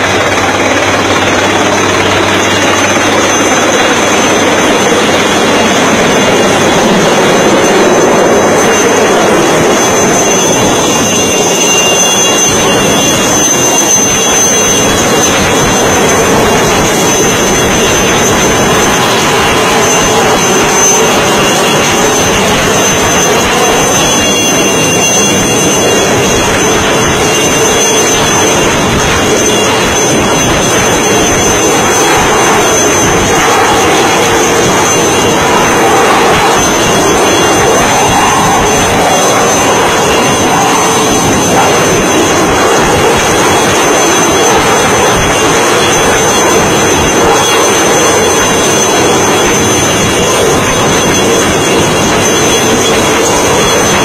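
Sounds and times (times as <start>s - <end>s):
helicopter hovering overhead: 0.0s - 54.0s
high turbine whine: 0.0s - 54.0s.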